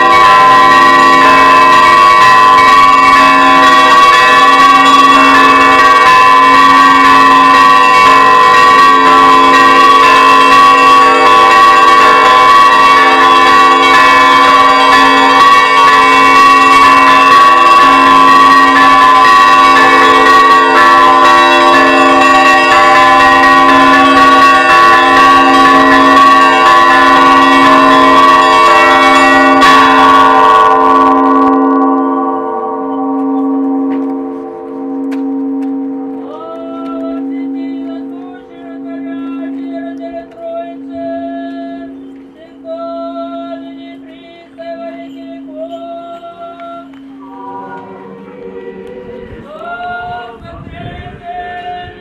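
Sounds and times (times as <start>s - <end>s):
low bell tolling: 0.0s - 50.9s
church bells ringing a peal: 0.0s - 52.0s.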